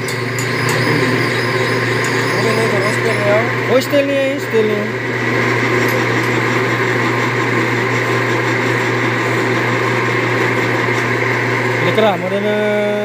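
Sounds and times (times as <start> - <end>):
drill press boring metal: 0.0 - 12.5.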